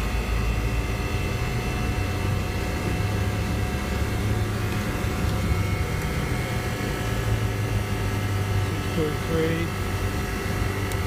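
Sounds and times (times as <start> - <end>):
low electrical drone: 0.0 - 11.0
refrigeration compressor humming: 0.0 - 11.0.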